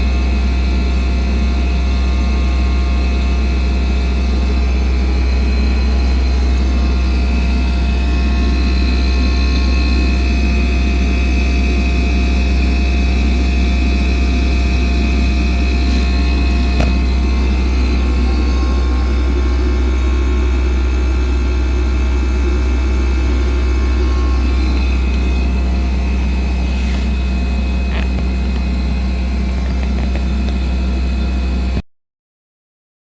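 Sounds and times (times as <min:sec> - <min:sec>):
high-pitched buzzing whine: 0:00.0 - 0:31.8
refrigerator humming: 0:00.0 - 0:31.8.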